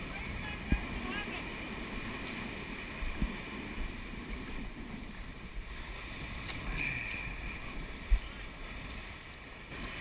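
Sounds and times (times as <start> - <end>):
water rushing along a hull: 0.0 - 10.0
wind rumbling on microphone: 0.0 - 10.0.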